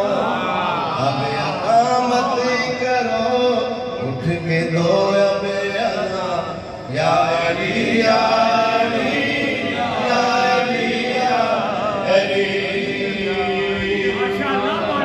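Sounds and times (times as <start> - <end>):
man chanting devotional verse: 0.9 - 15.0.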